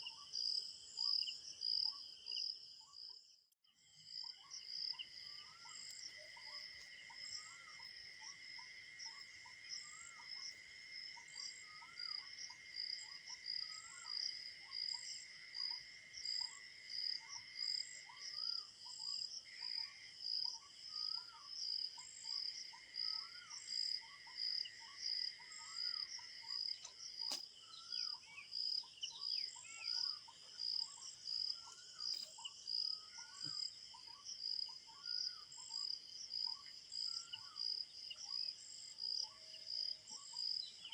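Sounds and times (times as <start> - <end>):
continuous insect trill: 0.0 - 40.9
crickets chirping: 0.0 - 40.9.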